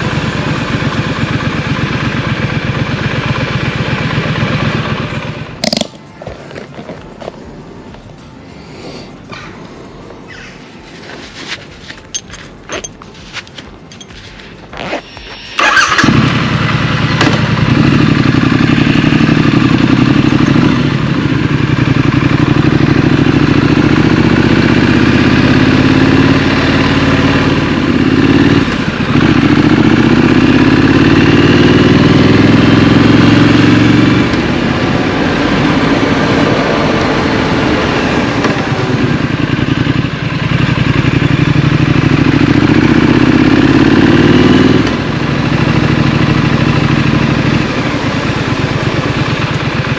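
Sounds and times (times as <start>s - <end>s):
motorcycle engine accelerating: 0.0s - 7.4s, 12.1s - 49.9s.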